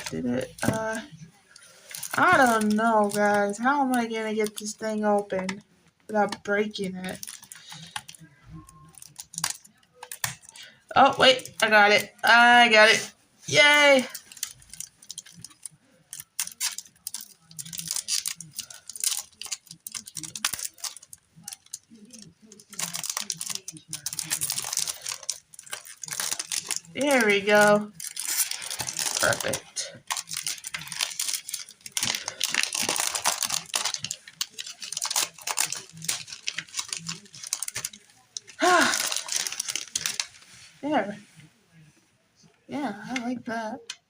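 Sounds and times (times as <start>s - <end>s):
plastic packaging crinkling: 0.0s - 5.6s, 6.2s - 12.2s, 12.9s - 40.7s.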